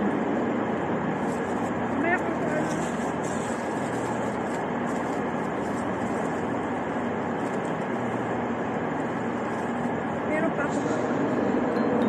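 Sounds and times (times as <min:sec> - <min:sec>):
railway station hall rumble: 0:00.0 - 0:12.0.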